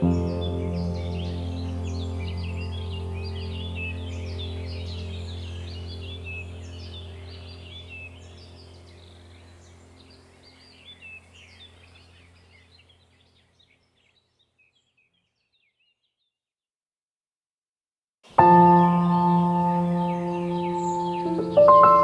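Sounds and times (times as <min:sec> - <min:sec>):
birds chirping: 0:00.0 - 0:16.1, 0:18.3 - 0:22.0.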